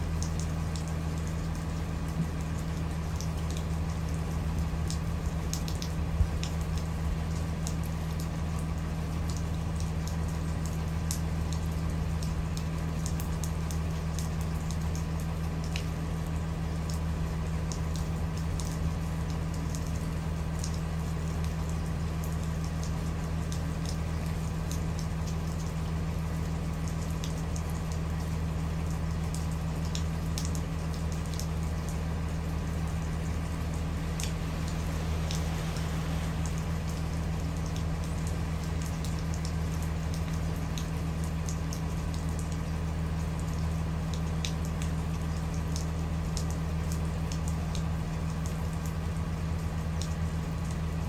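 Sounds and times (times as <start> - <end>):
constant low hum: 0.0 - 51.0
raindrops ticking close by: 0.0 - 51.0
steady rain falling: 0.0 - 51.0.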